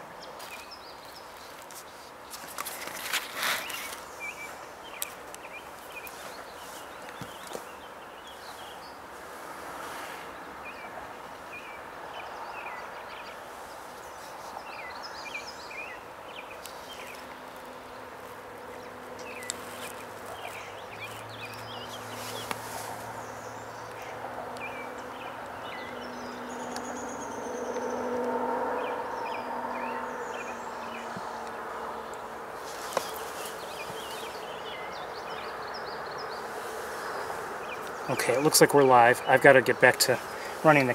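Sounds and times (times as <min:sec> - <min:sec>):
steady outdoor hiss: 0:00.0 - 0:40.9
small birds chirping: 0:00.1 - 0:40.9.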